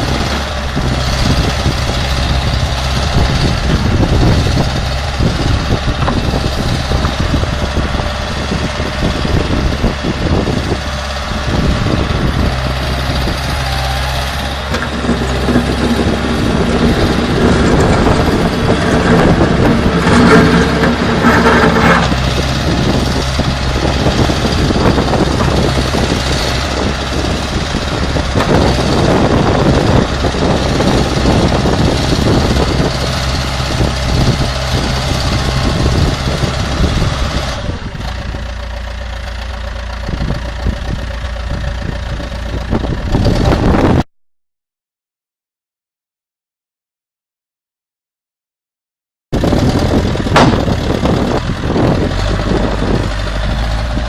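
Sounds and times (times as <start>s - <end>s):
diesel backhoe engine running: 0.0s - 44.0s, 49.4s - 54.0s.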